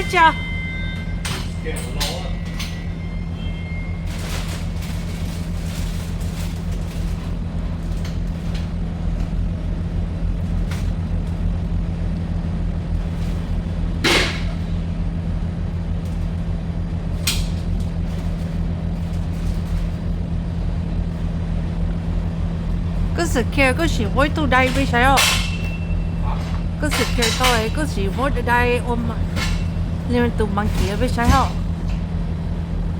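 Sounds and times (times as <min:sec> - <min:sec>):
truck engine droning: 0:00.0 - 0:32.9.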